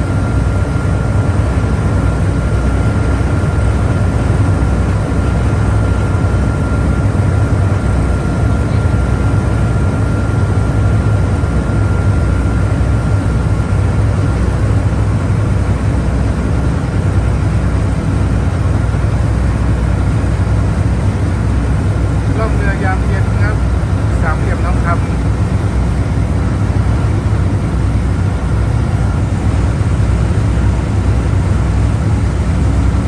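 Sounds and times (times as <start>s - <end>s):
motorboat engine drone: 0.0s - 33.0s.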